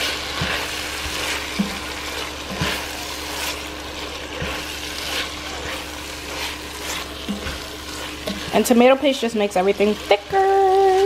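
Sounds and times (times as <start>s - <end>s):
spoon stirring and scraping: 0.0s - 10.2s
meat sizzling in a pan: 0.0s - 11.0s.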